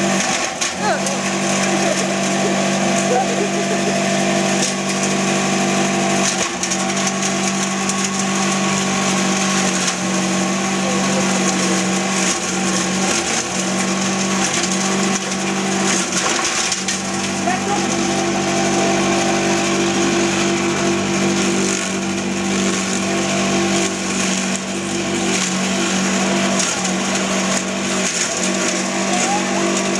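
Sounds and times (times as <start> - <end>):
blades shredding leaves and branches: 0.0 - 29.9
shredder machine humming: 0.0 - 29.9.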